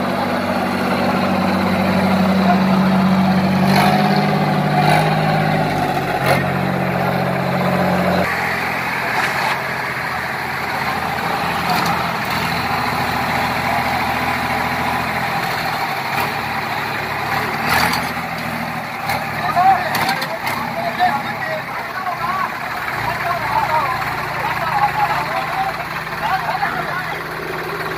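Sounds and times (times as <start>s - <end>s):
tractor diesel engines running: 0.0s - 27.9s.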